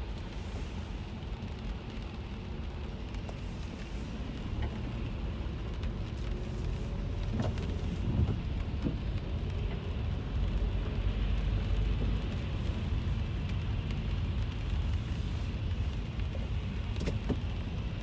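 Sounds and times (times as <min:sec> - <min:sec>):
engine and tyres rumbling: 0:00.0 - 0:18.0
rain hitting car body and glass: 0:00.1 - 0:11.0, 0:11.6 - 0:18.0.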